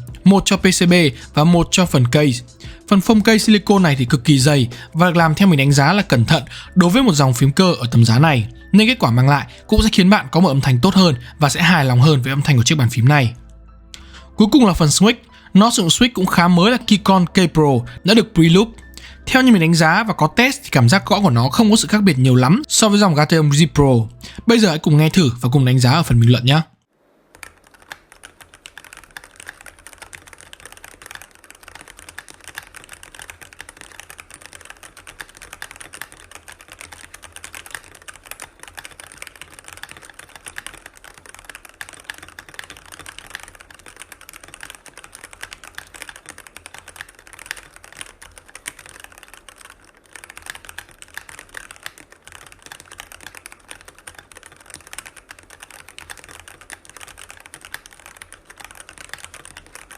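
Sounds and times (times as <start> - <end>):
fast typing on mechanical keyboard: 0.0 - 26.7, 27.3 - 59.9.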